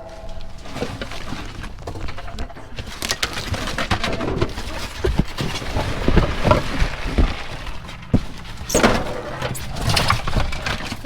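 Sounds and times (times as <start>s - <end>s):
trash knocks scrapes and rustles: 0.0s - 11.0s.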